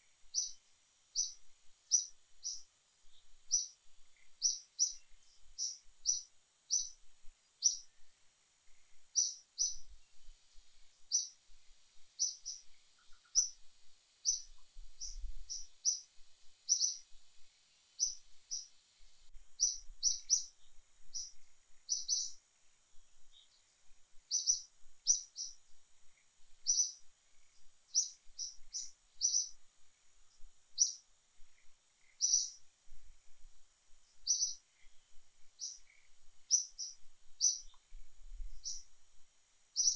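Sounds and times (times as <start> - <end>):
bird chirping: 0.2 - 22.4, 23.2 - 32.7, 34.1 - 38.9.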